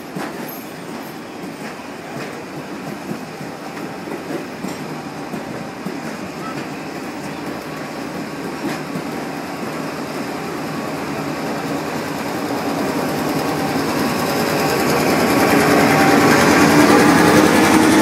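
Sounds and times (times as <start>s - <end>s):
diesel locomotive engine drone: 0.0s - 18.0s
train carriages rolling on rails: 0.0s - 18.0s.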